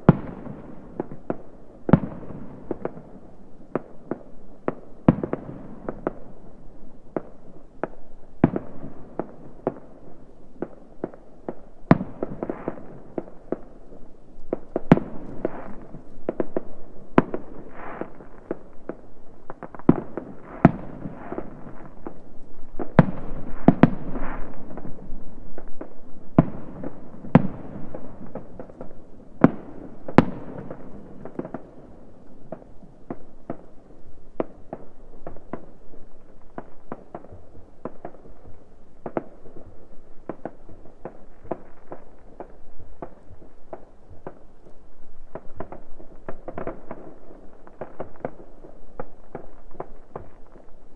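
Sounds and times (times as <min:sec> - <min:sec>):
din of faint fireworks: 0:00.0 - 0:50.9
fireworks bangs: 0:07.1 - 0:33.7, 0:34.4 - 0:50.9.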